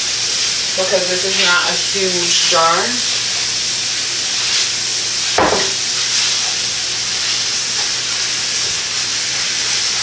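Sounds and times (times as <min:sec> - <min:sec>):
beef sizzling in a pot: 0:00.0 - 0:10.0.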